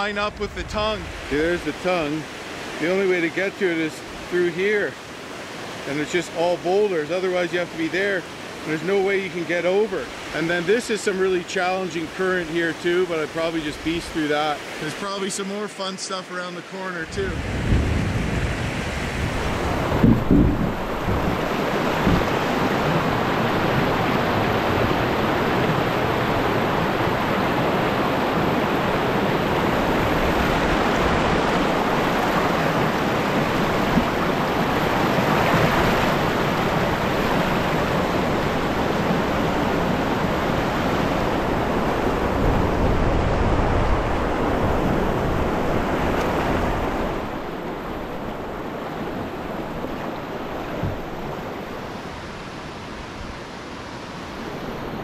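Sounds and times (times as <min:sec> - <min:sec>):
water rushing over boulders: 0:00.0 - 0:55.0.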